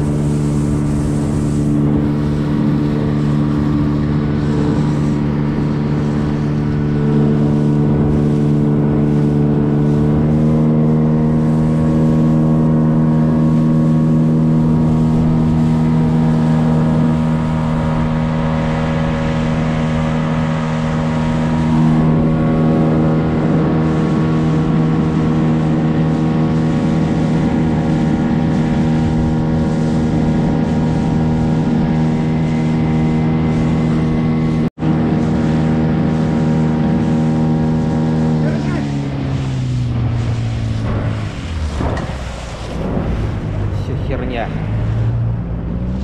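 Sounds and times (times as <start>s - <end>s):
outboard motor running: 0.0s - 46.0s
water rushing past hull: 0.0s - 46.0s.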